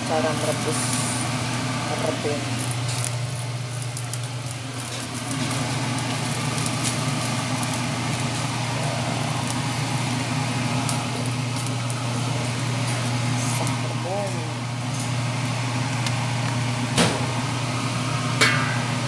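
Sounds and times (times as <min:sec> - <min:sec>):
fan motor humming: 0:00.0 - 0:19.0.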